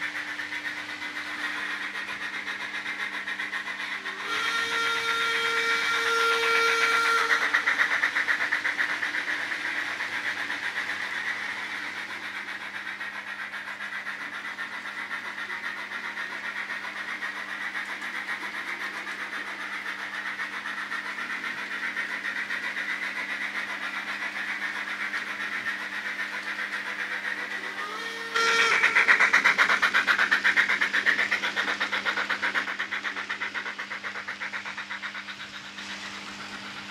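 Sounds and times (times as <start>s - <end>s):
model train wheels rattling on rails: 0.0s - 36.9s.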